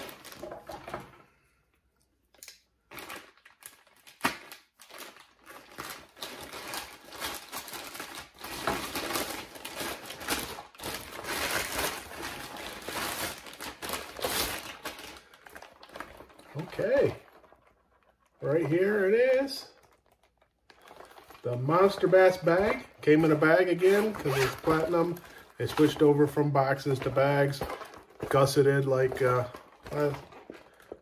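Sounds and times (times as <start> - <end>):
plastic packaging crinkling: 0.0 - 1.1, 2.3 - 31.0.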